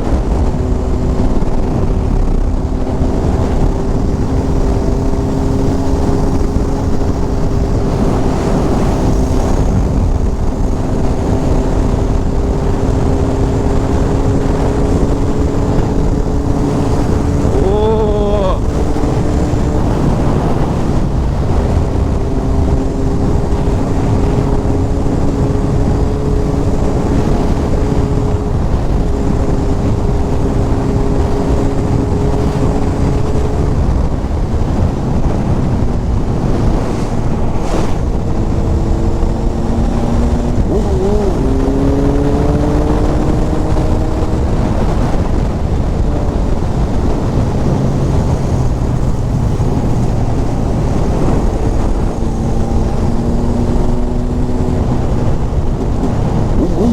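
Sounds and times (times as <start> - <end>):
motorcycle engine droning: 0.0 - 56.9
wind buffeting on microphone: 0.0 - 56.9.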